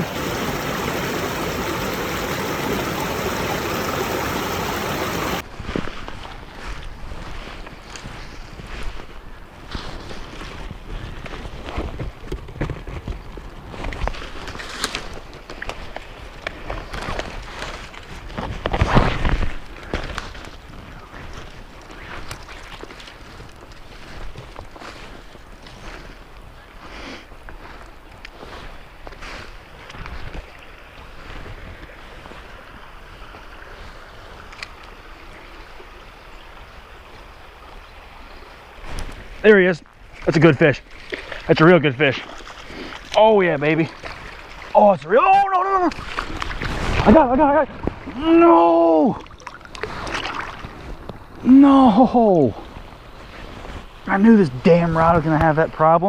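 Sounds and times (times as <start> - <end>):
water splashing and sloshing: 0.0 - 9.1, 9.8 - 26.2, 27.6 - 56.0.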